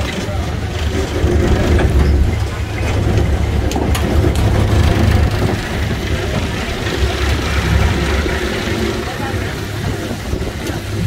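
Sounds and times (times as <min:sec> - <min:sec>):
deep tram engine running: 0:00.0 - 0:11.0.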